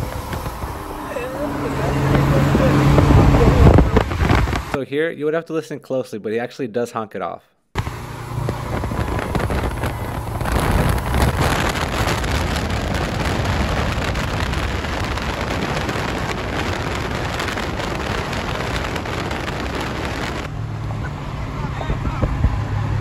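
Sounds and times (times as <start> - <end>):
car engine: 0.0 - 4.8, 7.8 - 23.0
wind and road roar: 0.0 - 4.8, 7.8 - 23.0.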